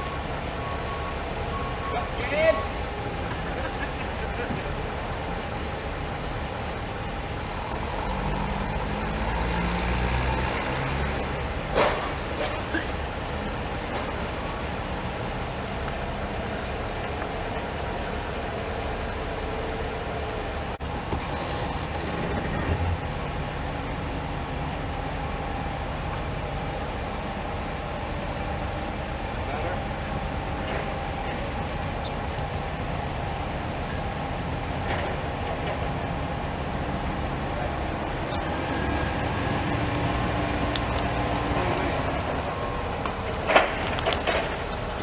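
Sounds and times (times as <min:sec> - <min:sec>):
vehicle engine rumbling: 0:00.0 - 0:45.0.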